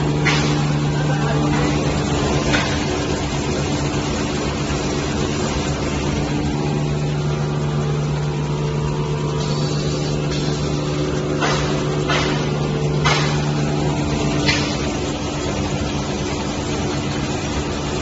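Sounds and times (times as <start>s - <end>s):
folding machine humming: 0.0s - 18.0s.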